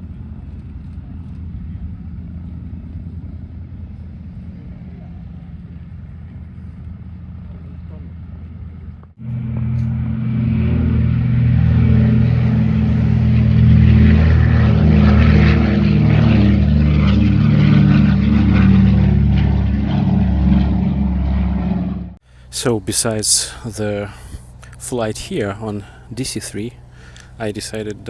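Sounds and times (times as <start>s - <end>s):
propeller aircraft engine running: 0.0s - 28.0s.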